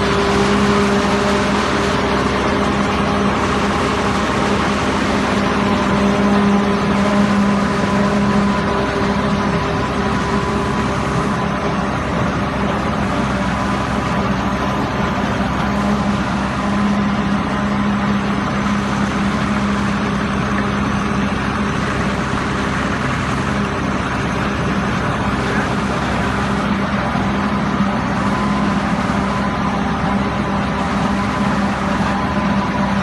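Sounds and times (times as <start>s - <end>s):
pile driver engine droning: 0.0s - 33.0s.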